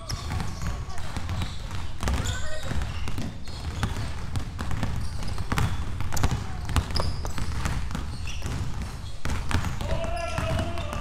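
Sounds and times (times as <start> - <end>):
basketballs bouncing on wooden floor: 0.0 - 11.0.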